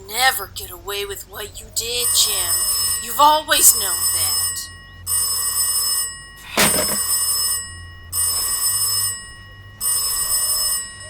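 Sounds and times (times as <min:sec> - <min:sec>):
telephone ringing: 0:02.0 - 0:11.0.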